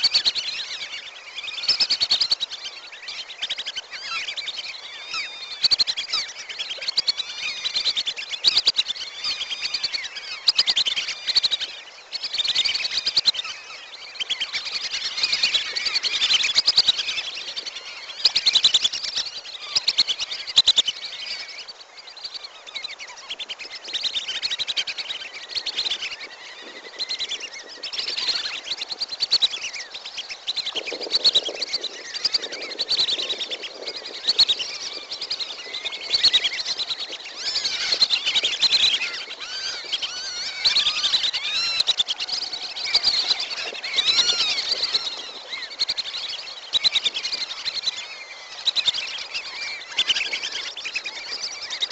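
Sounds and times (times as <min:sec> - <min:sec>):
ducks whistling in a flock: 0:00.0 - 0:51.9.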